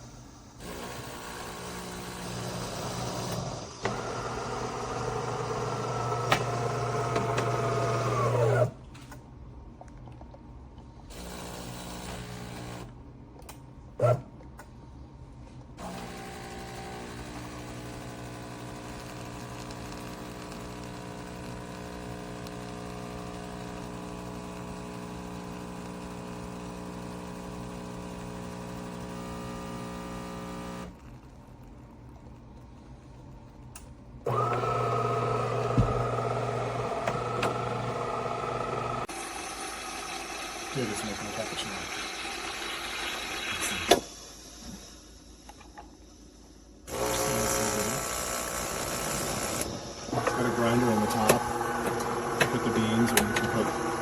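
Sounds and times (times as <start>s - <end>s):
espresso machine humming: 0.5s - 8.7s, 11.1s - 13.0s, 15.8s - 33.6s, 34.2s - 44.0s, 46.9s - 54.0s
coffee grinder running: 0.6s - 8.8s, 11.1s - 13.0s, 15.8s - 32.7s, 34.3s - 44.0s, 46.9s - 54.0s.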